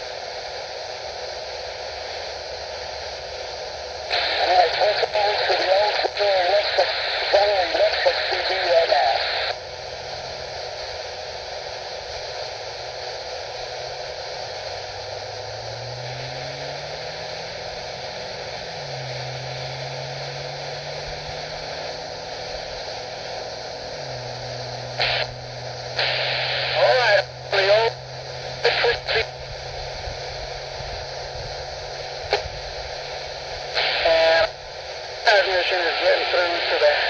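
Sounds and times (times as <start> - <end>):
loud noise bursts: 0.0 - 37.0
radio static hiss: 0.0 - 37.0.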